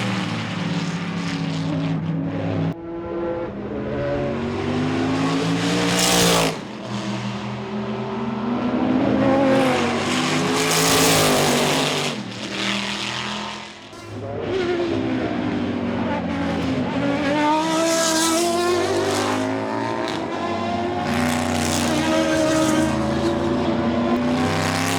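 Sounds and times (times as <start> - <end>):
racing engine at high revs: 0.0 - 24.9.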